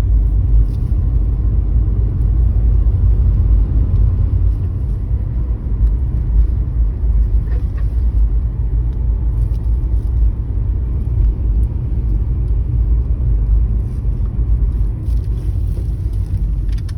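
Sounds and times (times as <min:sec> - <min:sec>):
car driving rumble: 0:00.0 - 0:16.9.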